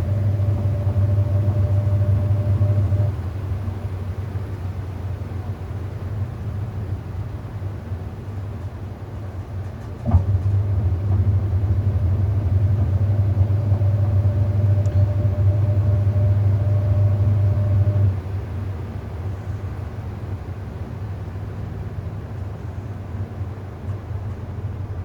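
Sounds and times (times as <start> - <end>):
washing machine humming: 0.0 - 25.0.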